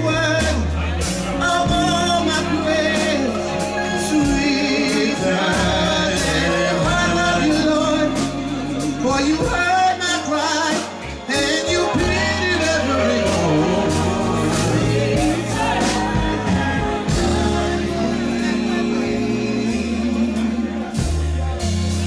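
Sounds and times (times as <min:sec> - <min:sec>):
backing vocals: 0:00.0 - 0:21.4
man singing gospel: 0:00.0 - 0:21.6
bass line: 0:00.0 - 0:22.0.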